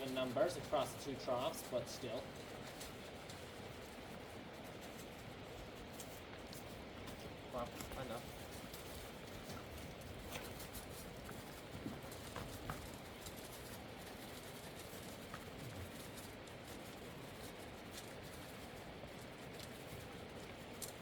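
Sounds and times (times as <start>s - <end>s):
hooves clicking and tapping: 0.0s - 21.0s
steady low hiss: 0.0s - 21.0s.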